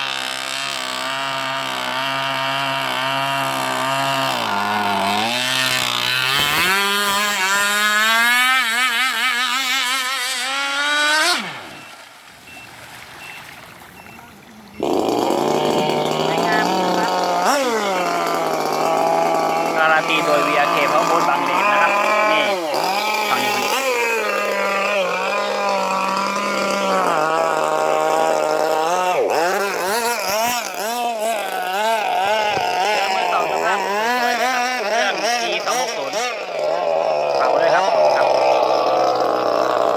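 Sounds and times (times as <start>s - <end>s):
model boat engine revving: 0.0s - 39.9s.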